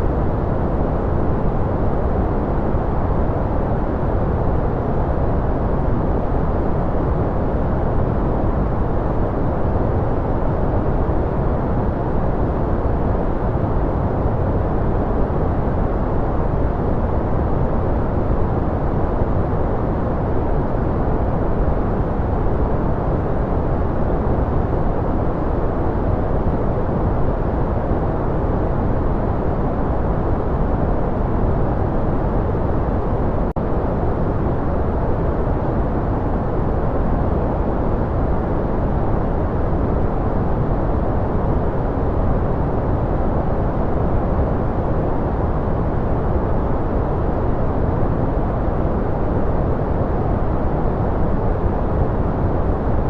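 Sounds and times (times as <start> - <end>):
white noise: 0.0 - 53.0.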